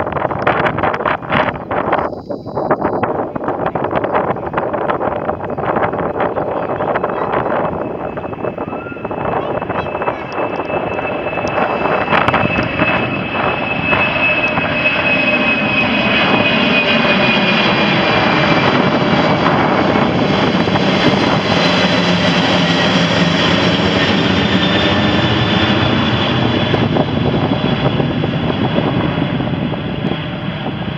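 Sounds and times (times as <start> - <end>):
high engine whine: 0.0 - 30.9
jet engines roaring: 0.0 - 30.9.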